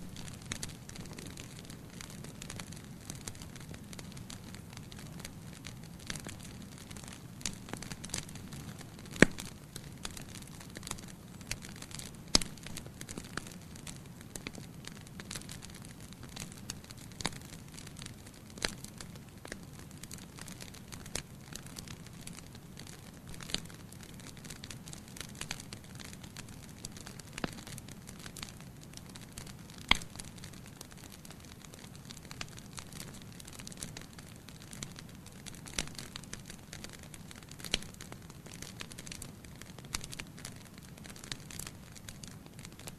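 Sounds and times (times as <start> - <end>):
fire crackling and popping: 0.0 - 42.9.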